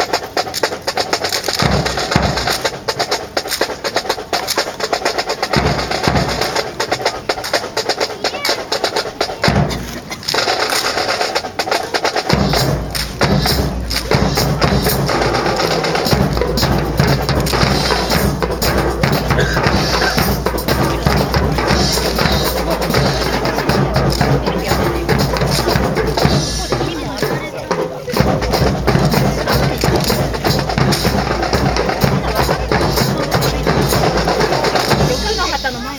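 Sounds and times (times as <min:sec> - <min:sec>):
rapid snare drum strokes: 0:00.0 - 0:35.9
bass drums: 0:01.5 - 0:03.6, 0:04.4 - 0:07.0, 0:09.1 - 0:11.2, 0:12.2 - 0:35.9.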